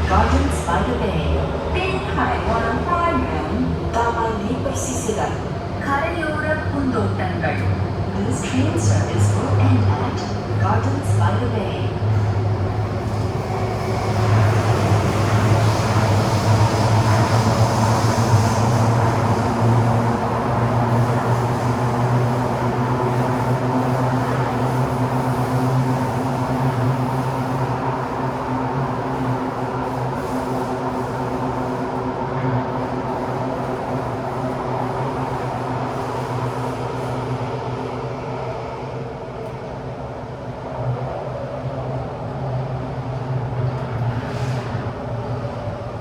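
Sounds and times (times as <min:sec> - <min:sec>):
wheel and rail rumble: 0:00.0 - 0:39.7
train low hum: 0:00.0 - 0:46.0.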